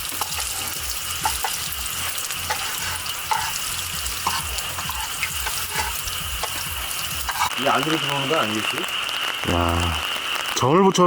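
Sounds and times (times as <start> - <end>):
pancake sizzling in hot oil: 0.0 - 11.0.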